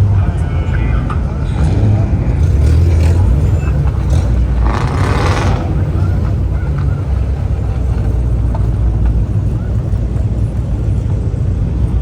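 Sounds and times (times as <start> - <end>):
car low rumble: 0.0 - 12.0.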